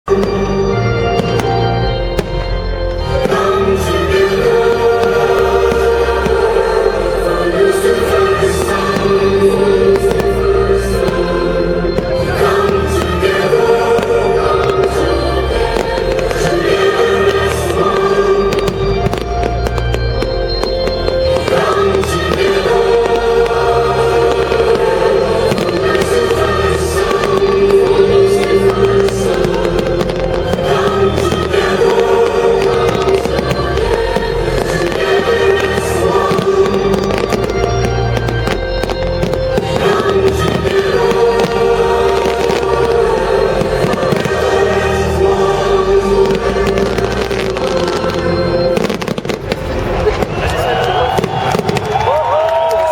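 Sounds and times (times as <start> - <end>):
choral music: 0.0 - 52.9
fireworks bangs: 0.1 - 52.9.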